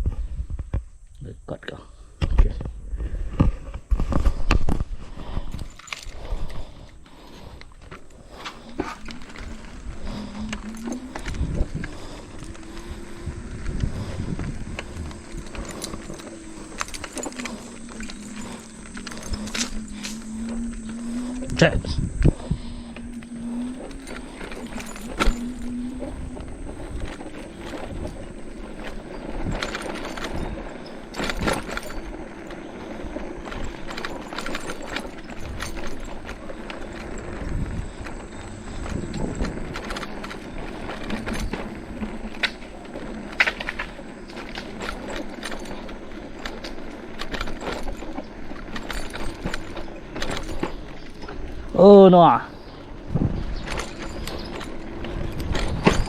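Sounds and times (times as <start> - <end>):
bike rattling and knocking: 2.4 - 56.0
electric bike motor hum: 2.7 - 56.0.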